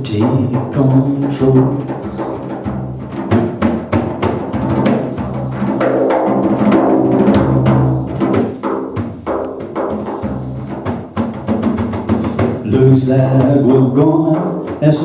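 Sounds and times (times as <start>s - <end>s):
drums in a busy pattern: 0.0s - 15.0s.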